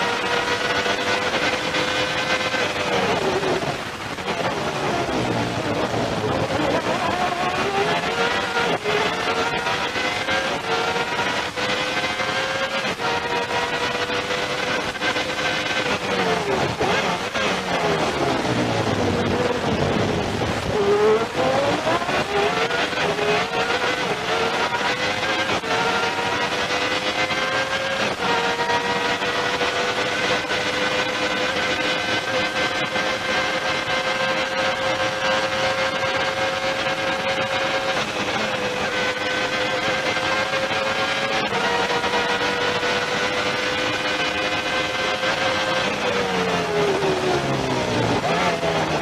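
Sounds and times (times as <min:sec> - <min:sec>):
racing car engine revving: 0:00.0 - 0:49.0.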